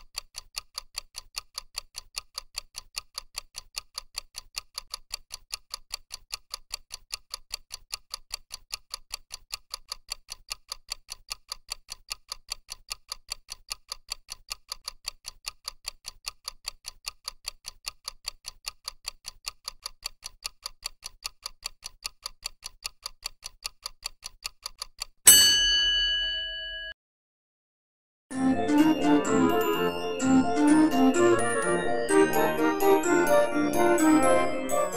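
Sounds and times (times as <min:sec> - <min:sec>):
clock ticking: 0:00.0 - 0:25.3, 0:28.4 - 0:34.9.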